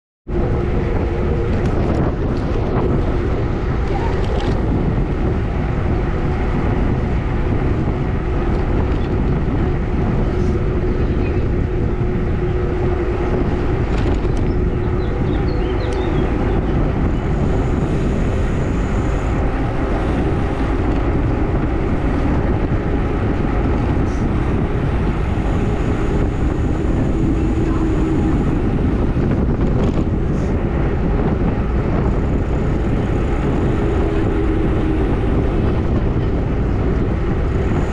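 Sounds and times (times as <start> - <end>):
wind buffeting microphone: 0.3 - 37.9.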